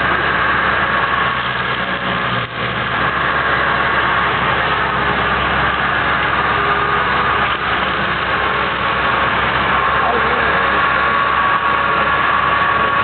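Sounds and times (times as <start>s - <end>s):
excavator running: 0.0s - 13.0s.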